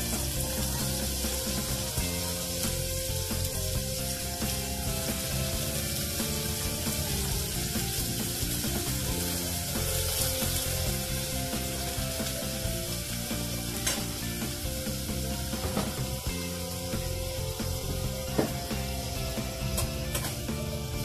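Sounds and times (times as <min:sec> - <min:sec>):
food sizzling in metal pot: 0:00.0 - 0:21.0
gas stove flame hiss: 0:00.0 - 0:21.0.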